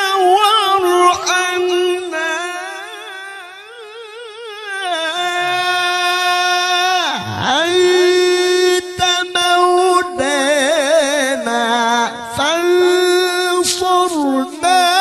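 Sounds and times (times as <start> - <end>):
man chanting unaccompanied: 0.0 - 15.0.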